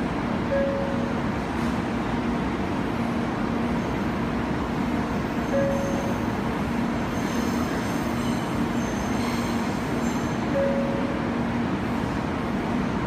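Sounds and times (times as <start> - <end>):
train onboard equipment running: 0.0 - 13.0.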